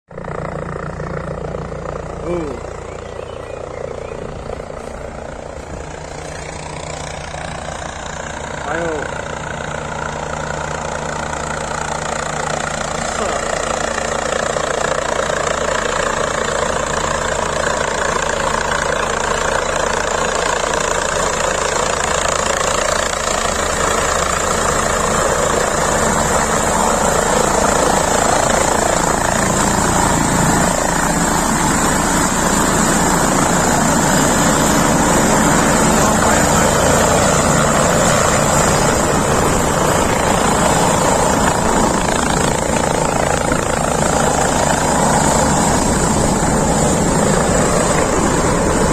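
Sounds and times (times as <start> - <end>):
helicopter engine and rotor: 0.1 - 48.9.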